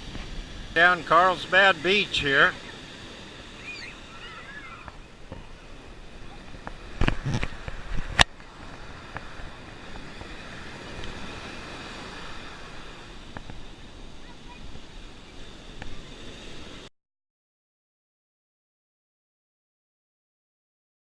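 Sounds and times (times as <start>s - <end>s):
ocean waves breaking: 0.0s - 16.9s.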